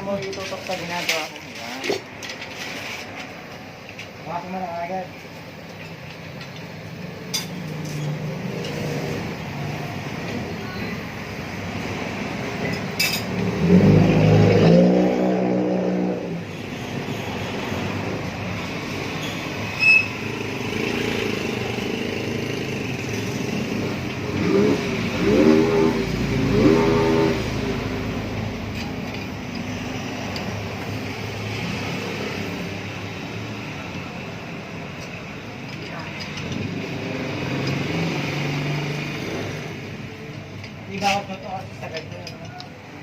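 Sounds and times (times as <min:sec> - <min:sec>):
traffic rumble: 0:00.0 - 0:43.0
vehicle engines revving: 0:05.1 - 0:43.0.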